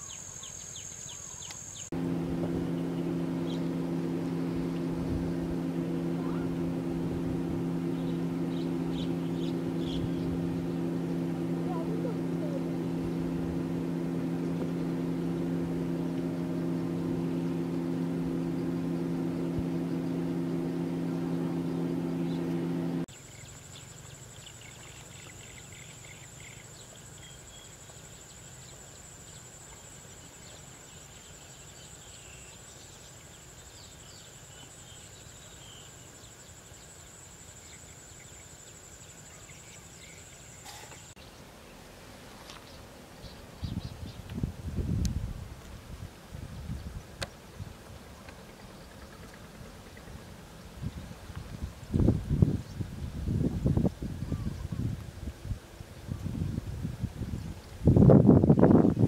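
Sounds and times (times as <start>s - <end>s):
engine drone: 0.0s - 32.9s, 33.5s - 41.2s, 42.4s - 59.0s.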